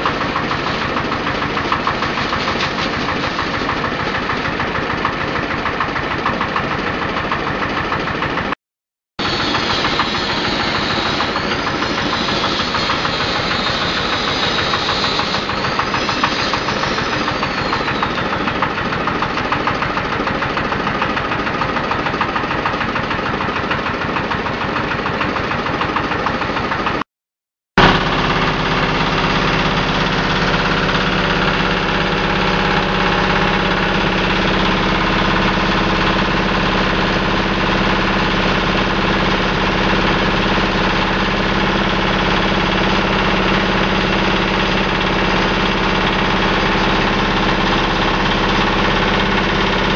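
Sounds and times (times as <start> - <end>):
small engine running: 0.0 - 8.6, 9.2 - 27.0, 27.8 - 49.9.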